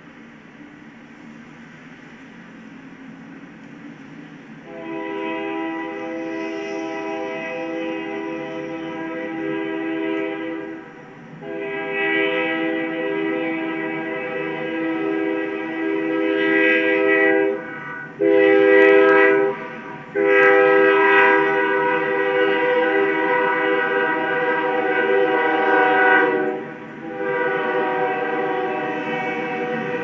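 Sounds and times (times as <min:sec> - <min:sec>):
locomotive air horn blasts: 0:04.6 - 0:30.0.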